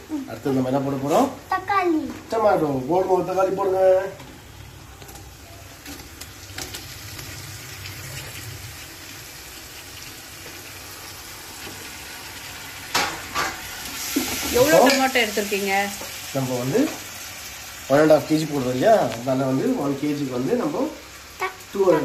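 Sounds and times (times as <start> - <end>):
tomatoes sizzling in hot oil: 0.0 - 22.0.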